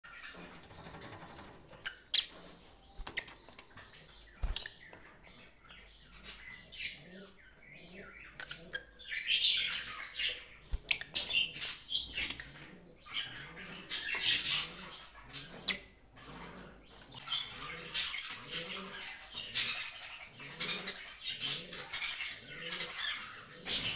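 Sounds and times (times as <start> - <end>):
lovebirds chirping and twittering: 0.0 - 23.9.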